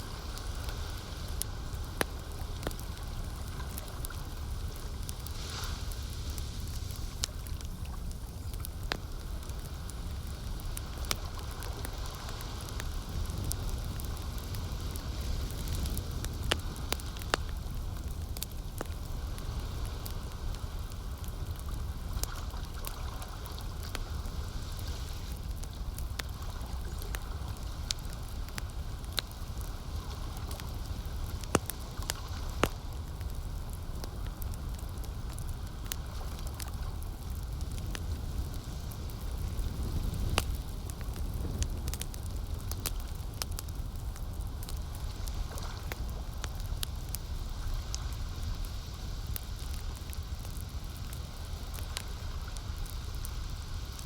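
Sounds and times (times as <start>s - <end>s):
campfire crackling: 0.0s - 54.0s
low rumble of lake water: 0.0s - 54.0s.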